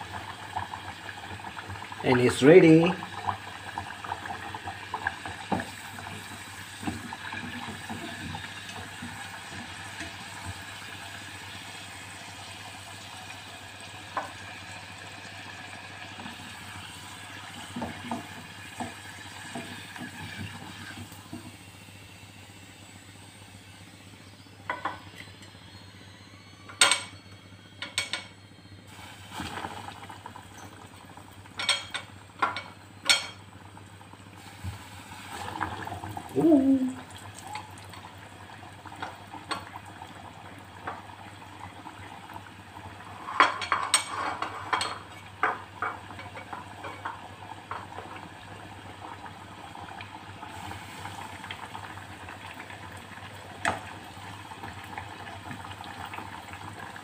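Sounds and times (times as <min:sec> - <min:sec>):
oil bubbling and sizzling: 0:00.0 - 0:25.8, 0:28.9 - 0:57.0.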